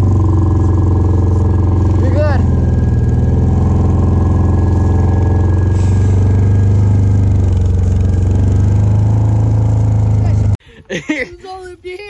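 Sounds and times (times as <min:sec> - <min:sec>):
small vehicle engine humming: 0:00.0 - 0:12.0.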